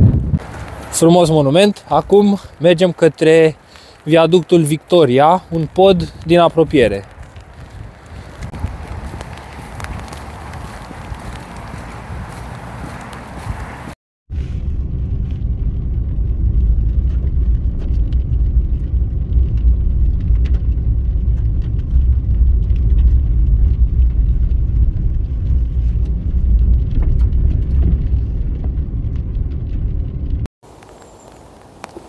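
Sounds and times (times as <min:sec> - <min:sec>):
engine and tyres rumbling: 0:00.0 - 0:04.1, 0:04.7 - 0:32.0.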